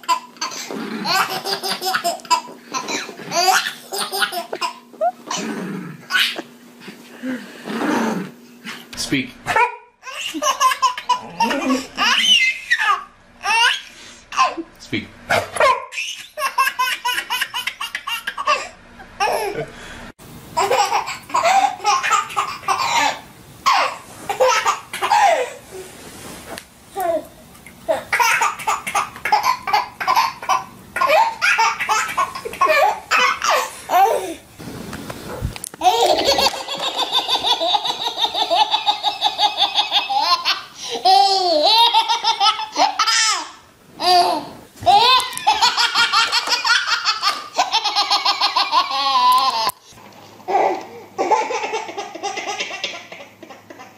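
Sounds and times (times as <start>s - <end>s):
babies laughing: 0.0s - 5.5s, 6.1s - 6.5s, 9.6s - 14.7s, 15.4s - 19.7s, 20.6s - 25.6s, 27.9s - 34.4s, 35.8s - 53.9s.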